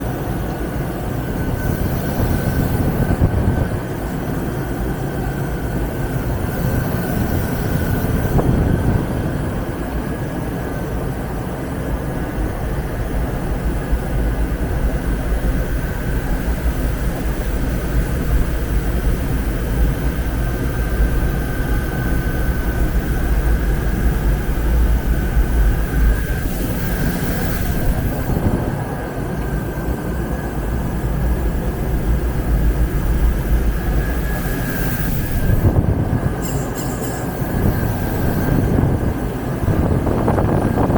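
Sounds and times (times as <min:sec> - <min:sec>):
lathe rumble with high whine: 0:00.0 - 0:40.9.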